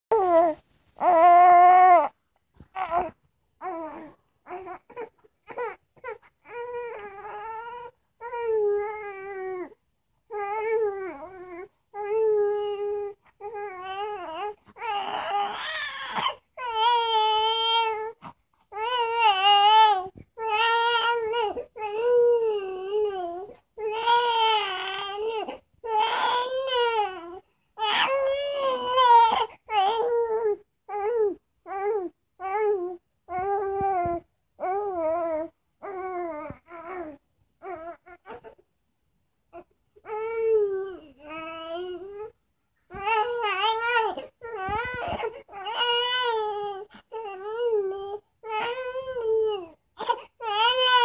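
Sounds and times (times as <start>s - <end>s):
infant crying: 0.1s - 38.6s, 39.6s - 51.0s.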